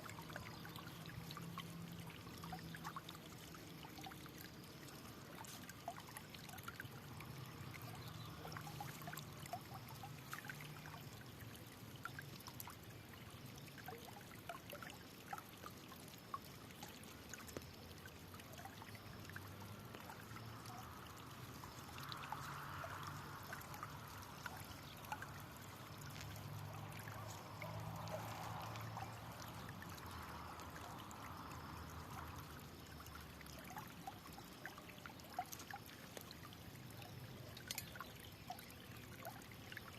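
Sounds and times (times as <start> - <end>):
small water splashes: 0.0 - 39.9
water trickling and pouring: 0.0 - 39.9.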